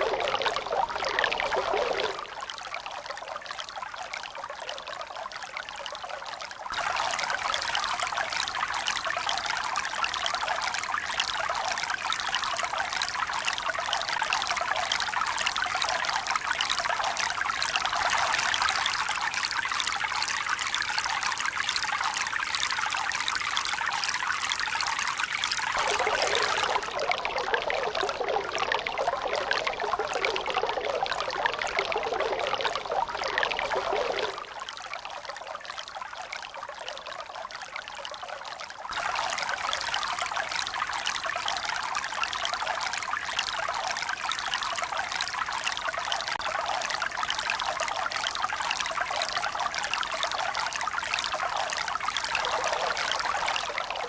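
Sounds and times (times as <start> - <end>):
pouring water: 6.7 - 36.1, 38.9 - 54.0.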